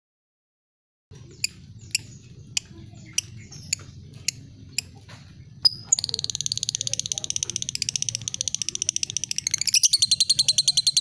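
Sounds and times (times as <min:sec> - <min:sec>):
bird chattering trill: 0:01.2 - 0:11.0.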